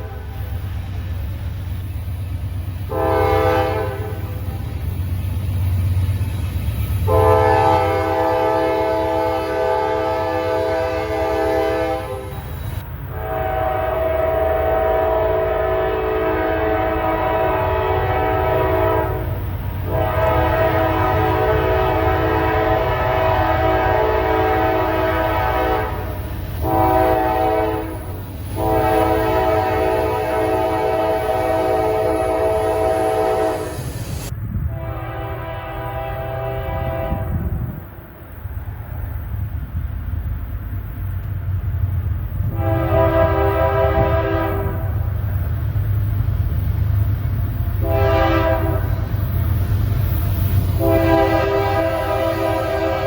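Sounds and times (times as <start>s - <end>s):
low rumble of train: 0.0s - 53.0s.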